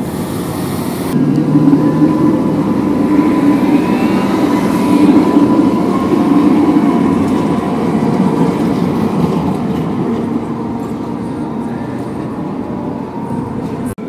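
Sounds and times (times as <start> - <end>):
tram wheels on rails: 0.0 - 14.0.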